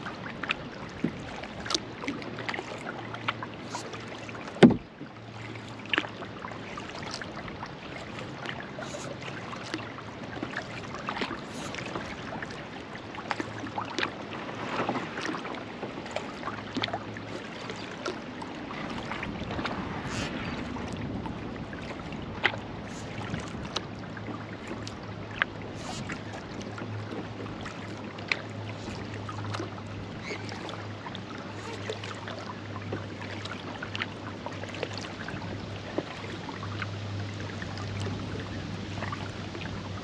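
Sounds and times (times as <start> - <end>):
paddle splashing in water: 0.0 - 40.0.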